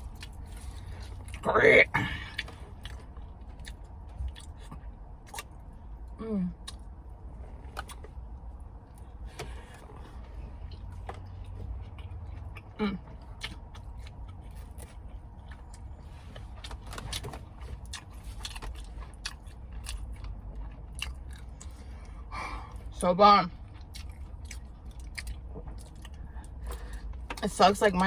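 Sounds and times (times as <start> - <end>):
person chewing food: 0.0 - 22.9, 23.6 - 27.4
low rumble inside a car: 0.0 - 28.0.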